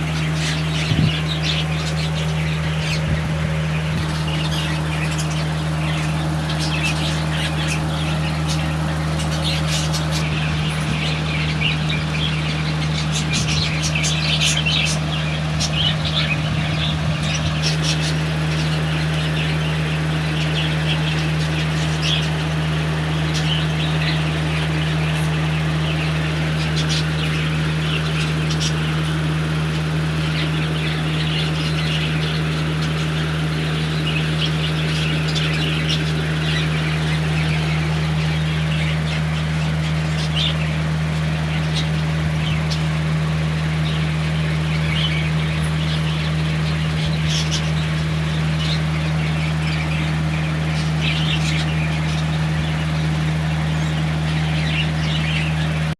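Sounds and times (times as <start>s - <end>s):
low mechanical hum: 0.0s - 55.9s.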